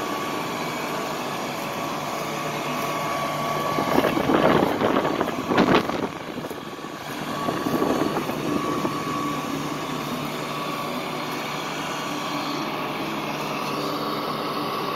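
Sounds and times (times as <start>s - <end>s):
engine drone with high whine: 0.0s - 14.9s.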